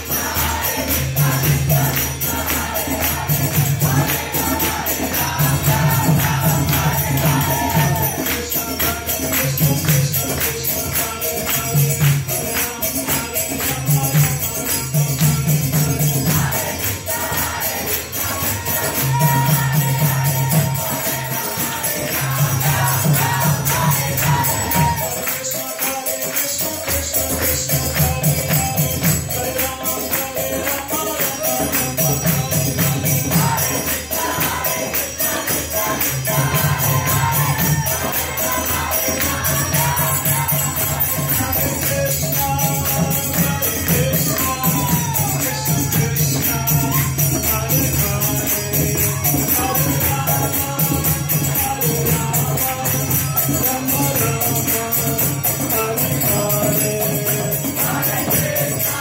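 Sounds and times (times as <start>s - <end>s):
group chanting: 0.0s - 26.0s, 26.6s - 59.0s
jingling percussion: 0.0s - 59.0s.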